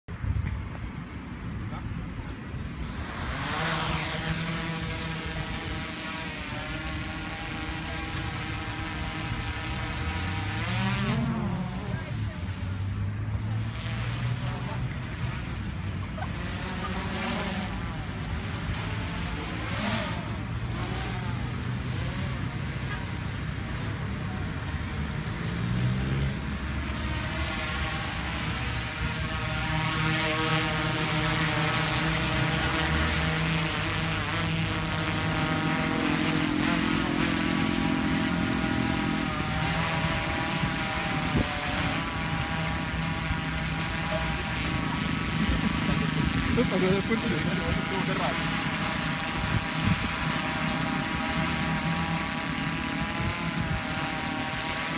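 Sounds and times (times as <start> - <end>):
quadcopter rotors whining: 1.7 - 54.9.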